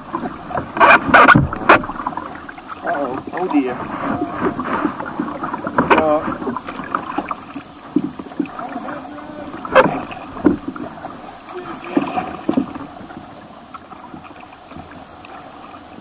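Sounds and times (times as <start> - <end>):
paddles splashing: 0.0 - 16.0
running stream water: 0.0 - 16.0.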